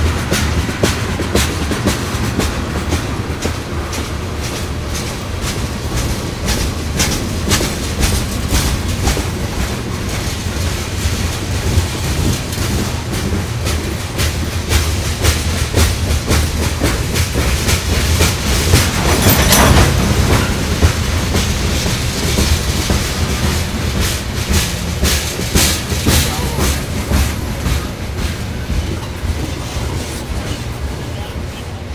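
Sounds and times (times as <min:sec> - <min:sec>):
freight train rumble: 0:00.0 - 0:31.9
wheels clicking over rail joints: 0:00.0 - 0:31.9.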